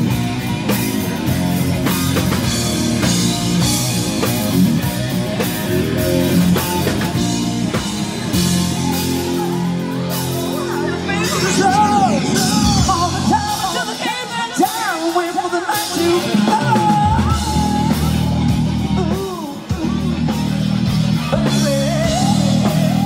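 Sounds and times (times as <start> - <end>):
distorted electric guitars: 0.0 - 23.0
drum kit: 0.0 - 23.0.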